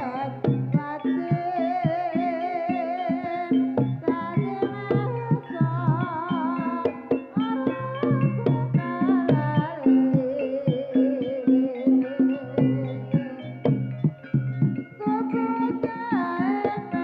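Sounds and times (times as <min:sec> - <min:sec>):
rapid hand-drum strokes: 0:00.0 - 0:17.0
wavering melody with vibrato: 0:00.0 - 0:17.0.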